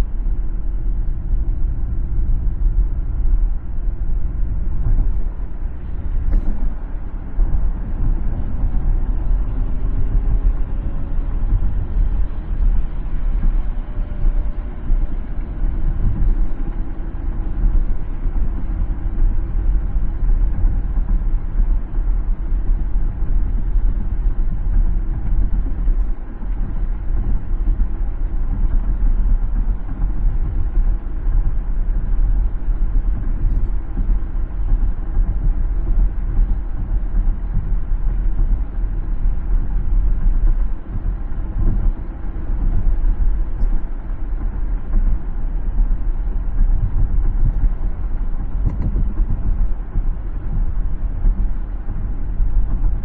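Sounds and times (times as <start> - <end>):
tyres and engine rumble: 0.0 - 53.0.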